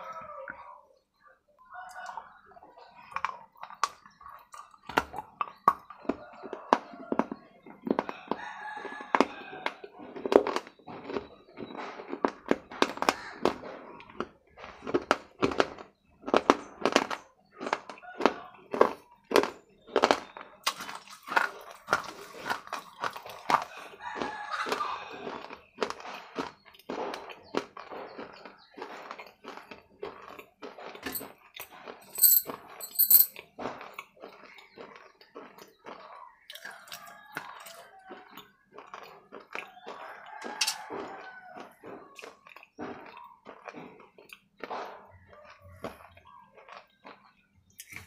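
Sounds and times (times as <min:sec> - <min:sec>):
wet chewing and lip-smacking: 0:01.9 - 0:32.0, 0:33.4 - 0:48.0.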